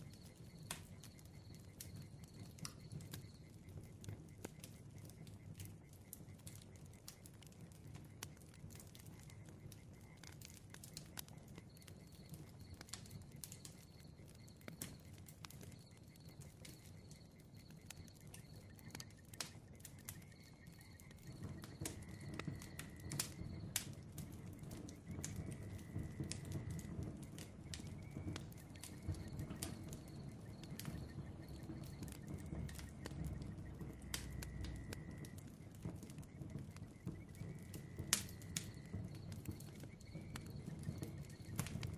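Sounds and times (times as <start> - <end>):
bonfire crackling and popping: 0.0 - 41.9
low rumble of flame: 0.0 - 41.9.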